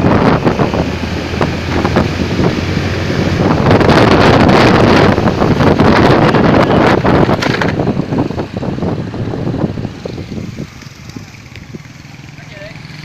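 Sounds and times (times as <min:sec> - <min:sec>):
motorcycle engine: 0:00.0 - 0:13.0
wind buffeting microphone: 0:00.0 - 0:13.0.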